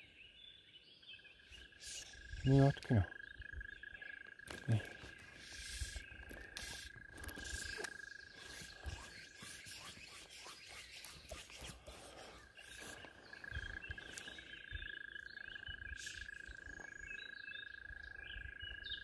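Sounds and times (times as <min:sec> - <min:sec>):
bird chirps: 0:00.0 - 0:19.0.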